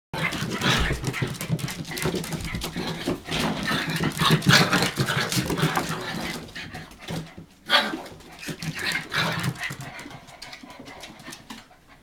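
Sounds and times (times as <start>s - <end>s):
puppy paws scrabbling: 0.2s - 12.0s.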